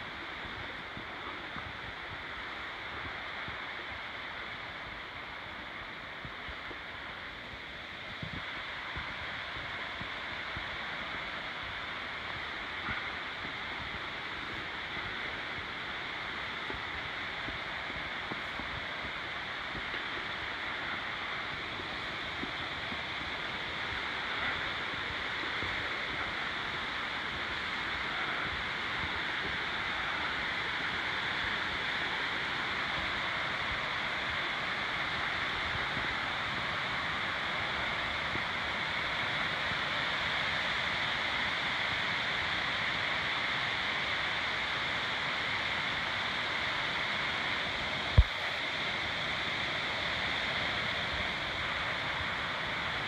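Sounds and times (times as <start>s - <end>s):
creek water flowing: 0.0s - 53.0s.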